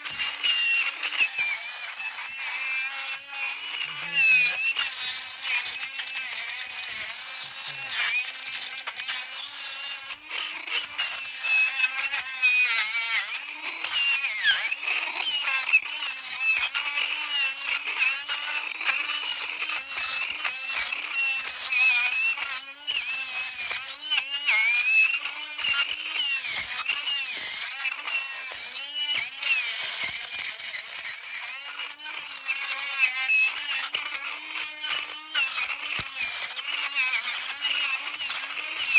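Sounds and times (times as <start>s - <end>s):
rotary tool grinding brass: 0.0s - 38.9s.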